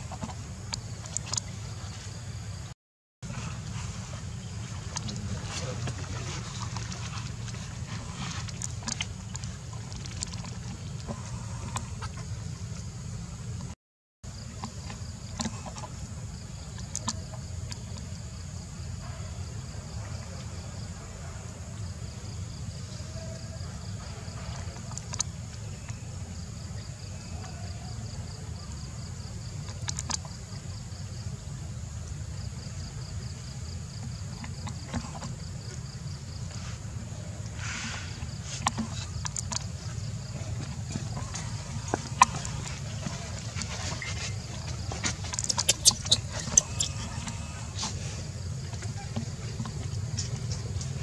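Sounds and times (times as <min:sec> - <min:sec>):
faint insect drone: 0:00.0 - 0:51.0.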